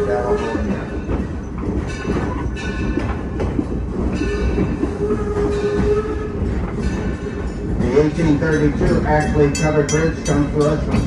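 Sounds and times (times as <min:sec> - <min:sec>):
train cars rumbling on track: 0:00.0 - 0:11.0.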